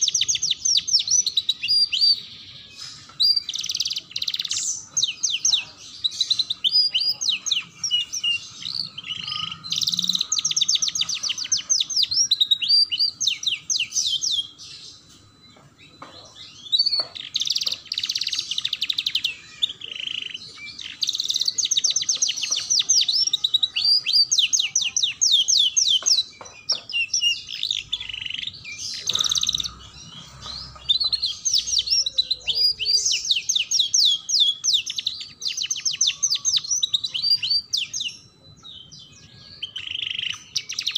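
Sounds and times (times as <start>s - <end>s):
canary trilling and chirping: 0.0s - 15.2s, 15.8s - 40.9s.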